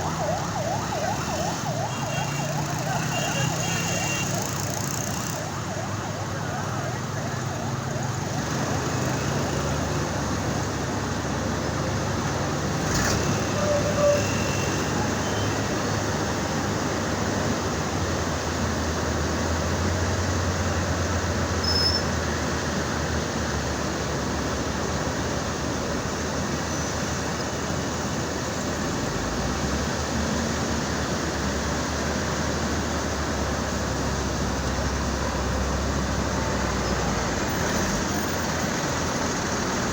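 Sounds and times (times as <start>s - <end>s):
engine and traffic noise: 0.0s - 39.9s.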